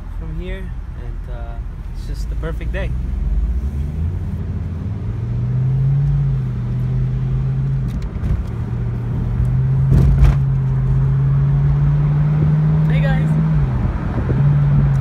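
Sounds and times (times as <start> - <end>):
car engine hum: 0.0 - 15.0
road rumble: 0.0 - 15.0.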